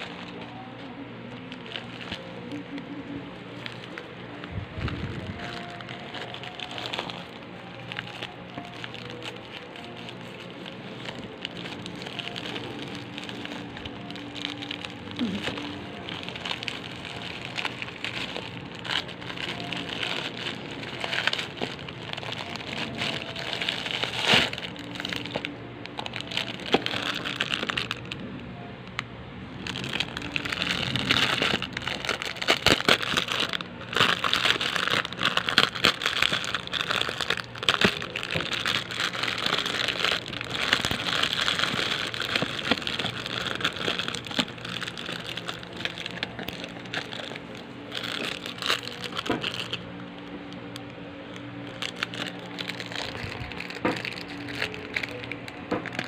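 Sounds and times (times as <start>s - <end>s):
plastic packaging crinkling: 0.0s - 56.0s.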